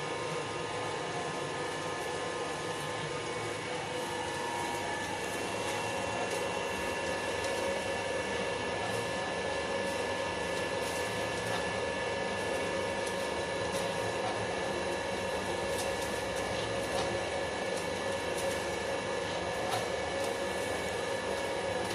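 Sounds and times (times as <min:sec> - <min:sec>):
oil press motor and gearbox hum: 0:00.0 - 0:21.9.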